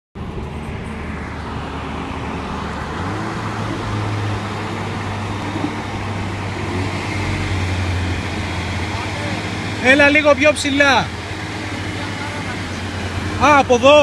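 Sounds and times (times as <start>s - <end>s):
car engine drone: 0.2s - 14.0s.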